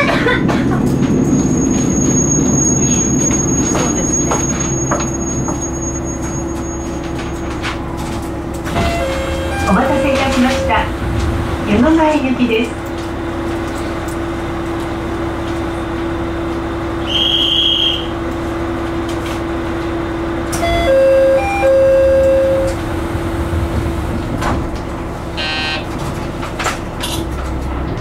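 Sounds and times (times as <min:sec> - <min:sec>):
diesel railcar engine idling: 0:02.6 - 0:28.0.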